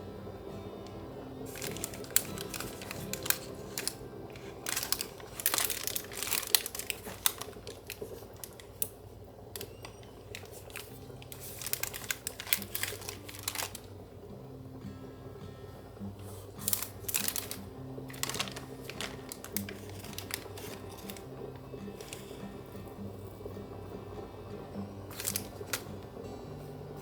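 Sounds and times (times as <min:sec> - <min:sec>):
crinkling and light clicks: 0:00.8 - 0:14.8, 0:15.7 - 0:27.0.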